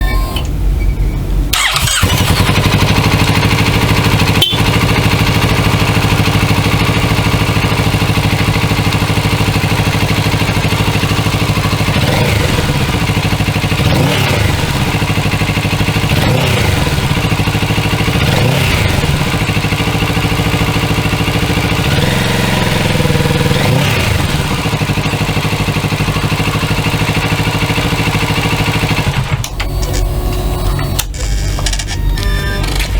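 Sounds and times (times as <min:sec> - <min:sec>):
motorcycle engine idling and revving: 0:01.3 - 0:32.9.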